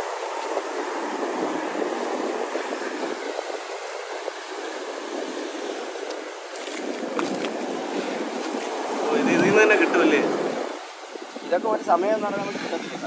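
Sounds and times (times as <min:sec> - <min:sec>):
sea surf: 0:00.0 - 0:13.0
wind on microphone: 0:00.0 - 0:13.0.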